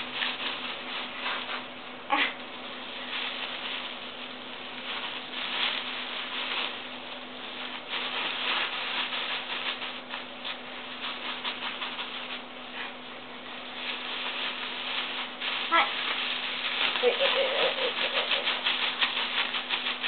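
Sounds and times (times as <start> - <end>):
plastic bag crinkling: 2.8 - 12.8, 13.4 - 20.0.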